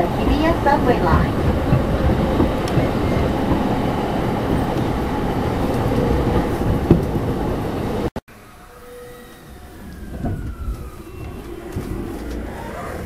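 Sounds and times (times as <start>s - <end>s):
train wheels rumbling on rail: 0.0s - 8.1s, 9.5s - 13.0s
station ambience: 0.0s - 13.0s.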